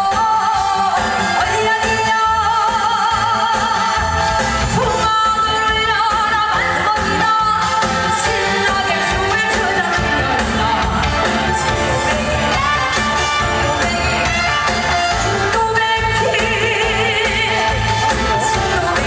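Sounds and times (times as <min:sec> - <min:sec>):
amplified band accompaniment: 0:00.0 - 0:19.0
woman singing through pa: 0:00.0 - 0:19.0.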